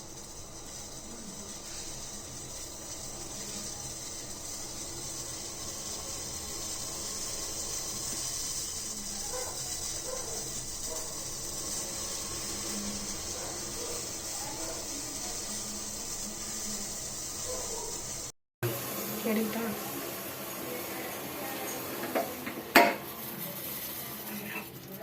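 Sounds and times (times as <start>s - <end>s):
pot hissing on stove: 0.0s - 25.0s.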